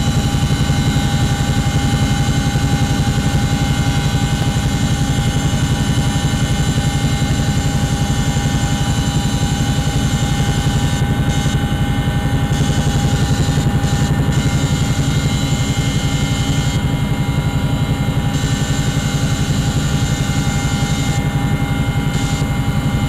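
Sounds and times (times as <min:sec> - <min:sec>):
aircraft engines droning in cabin: 0:00.0 - 0:23.0.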